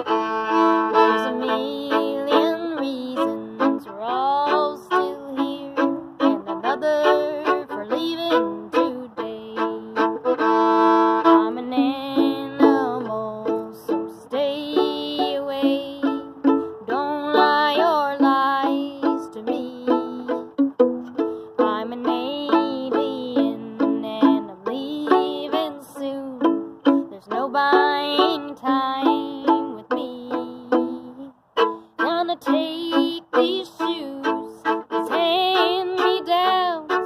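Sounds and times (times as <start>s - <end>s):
solo violin melody: 0.0s - 37.0s.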